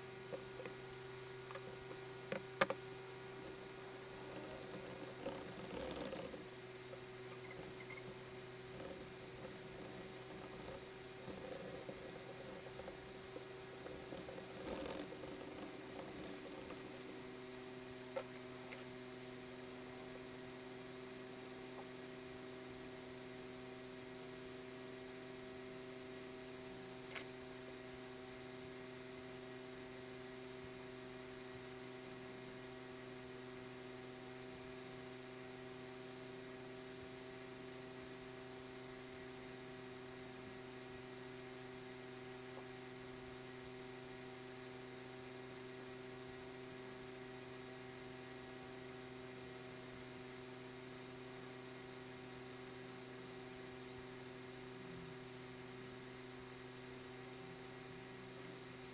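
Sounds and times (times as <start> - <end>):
steady electrical hum: 0.0 - 58.9.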